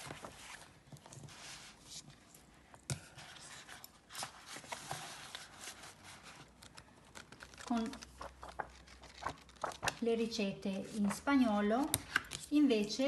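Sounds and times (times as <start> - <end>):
paper booklets rustling: 0.0 - 2.5, 3.2 - 12.5.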